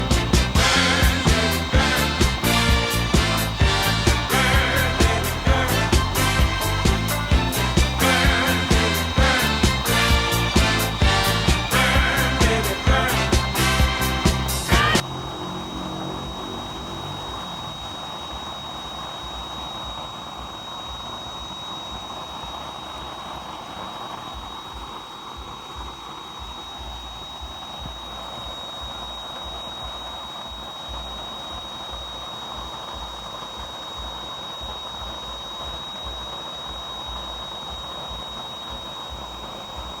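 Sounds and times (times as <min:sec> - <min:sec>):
high whine: 0:00.0 - 0:40.0
oil burner flame rushing: 0:00.0 - 0:40.0.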